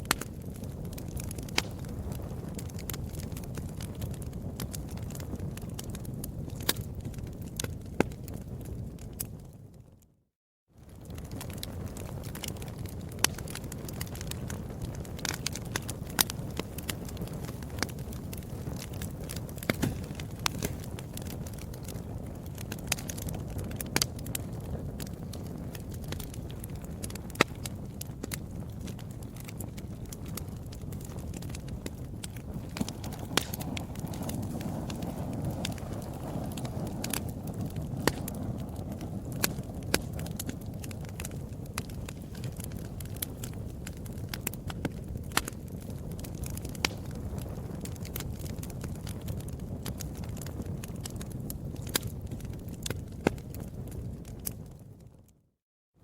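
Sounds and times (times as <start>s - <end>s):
wood fire crackling: 0.0s - 10.1s, 10.8s - 55.3s.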